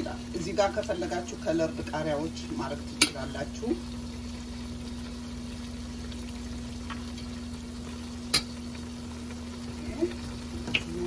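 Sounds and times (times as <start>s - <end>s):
sauce simmering: 0.0s - 11.0s.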